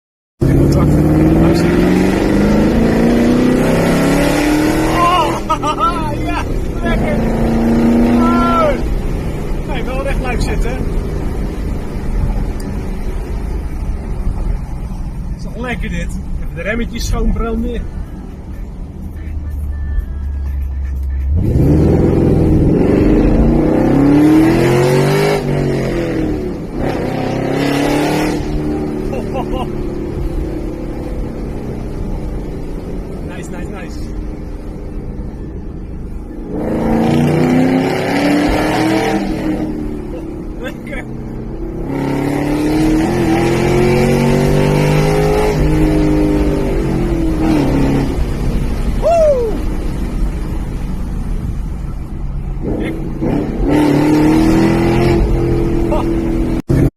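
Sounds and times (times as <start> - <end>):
car engine accelerating hard: 0.4 - 17.6, 21.3 - 35.2, 36.4 - 56.9.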